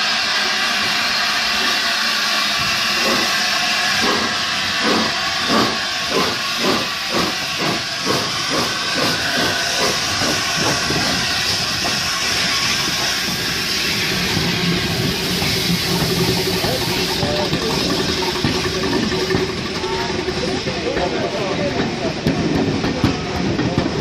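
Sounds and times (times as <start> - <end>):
steam hissing: 0.0 - 24.0
steam locomotive exhaust chuffs: 0.0 - 24.0.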